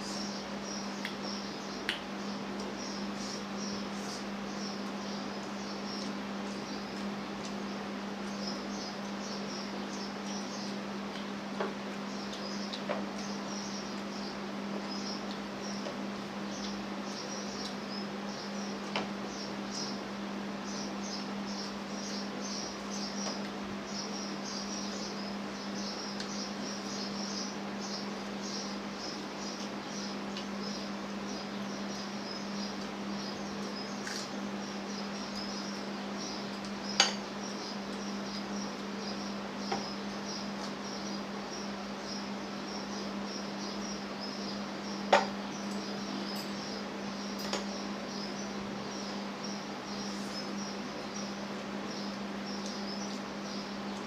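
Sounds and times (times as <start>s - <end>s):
insects chirping: 0.0s - 10.8s, 11.9s - 54.0s
steady low hum: 0.0s - 54.0s.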